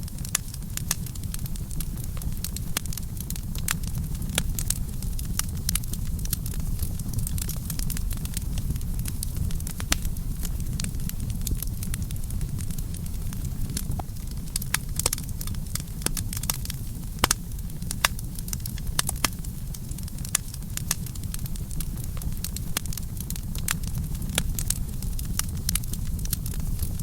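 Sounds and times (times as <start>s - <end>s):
low rumble of flames: 0.0s - 27.0s
wood crackling and popping: 0.0s - 27.0s.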